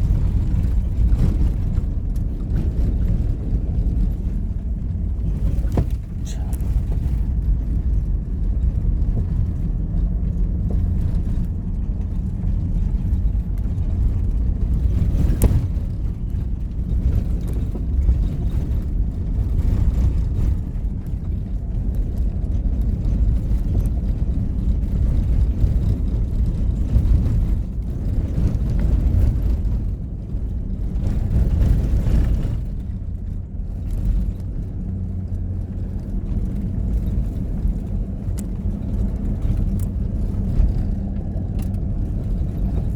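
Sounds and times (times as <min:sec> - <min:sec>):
vehicle engine and road noise: 0:00.0 - 0:42.9.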